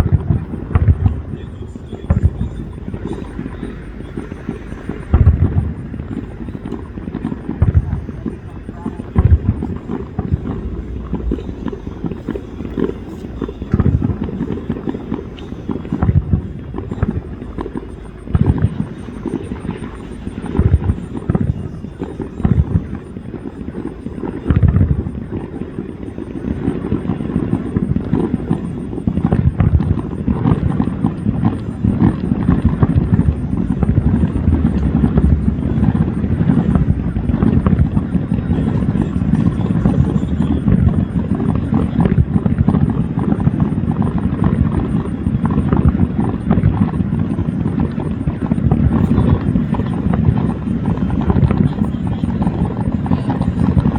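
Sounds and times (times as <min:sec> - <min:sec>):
low rumble: 0:00.0 - 0:23.9, 0:26.4 - 0:53.9
fireworks booming: 0:00.0 - 0:53.9.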